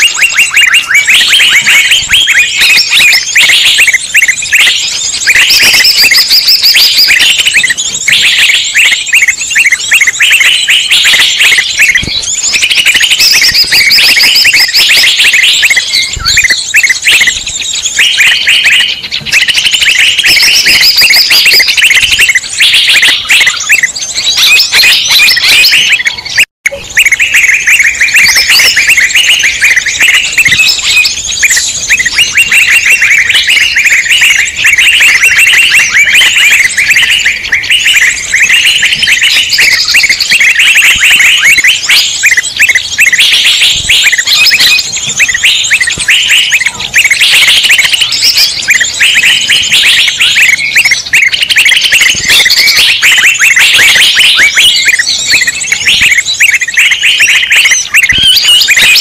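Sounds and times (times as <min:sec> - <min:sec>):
songbirds chattering and trilling: 0:00.0 - 0:59.0.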